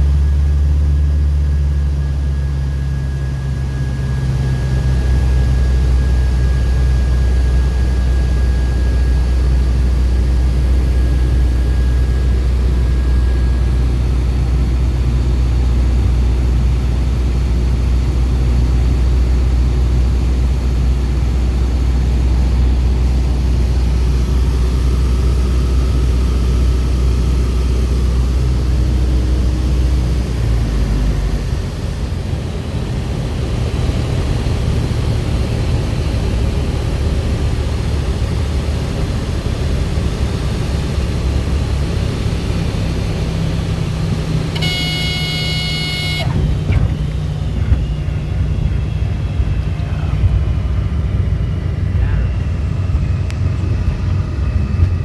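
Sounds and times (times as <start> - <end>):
airplane engine drone: 0.0 - 55.0.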